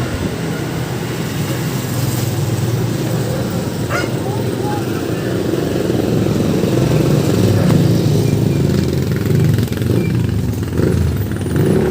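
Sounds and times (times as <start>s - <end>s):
loud engine-like drone: 0.0s - 11.9s.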